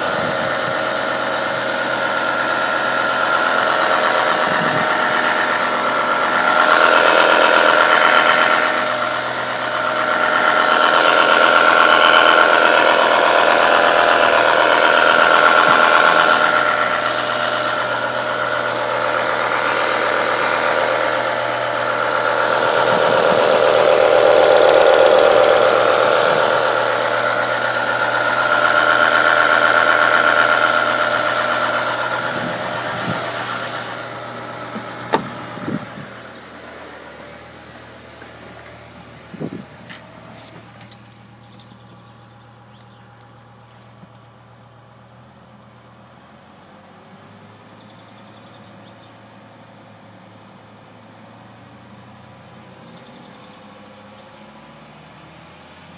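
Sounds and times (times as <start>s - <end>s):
car engine idling with clatter: 0.0s - 55.9s.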